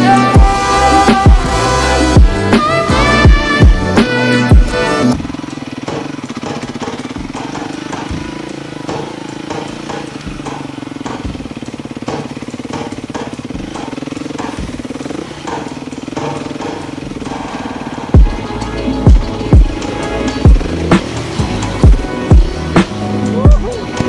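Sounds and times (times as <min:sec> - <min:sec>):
dirt bike engine: 0:00.0 - 0:24.0.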